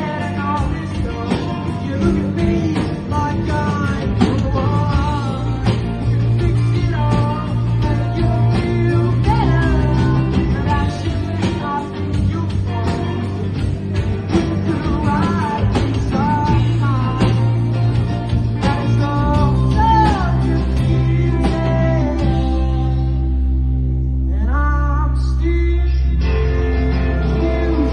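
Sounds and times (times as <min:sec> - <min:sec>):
rock song with guitar and drums: 0:00.0 - 0:27.9
wavering melodic lead line: 0:00.0 - 0:27.9.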